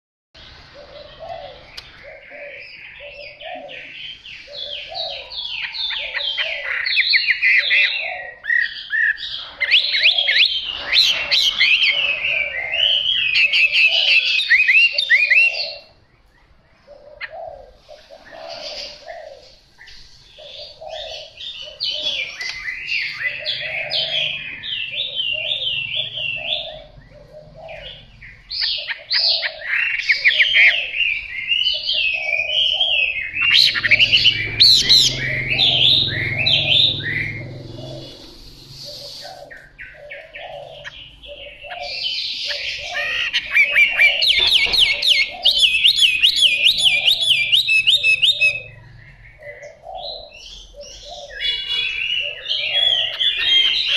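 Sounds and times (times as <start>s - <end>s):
bird singing warbles and whistles: 0.4s - 53.9s.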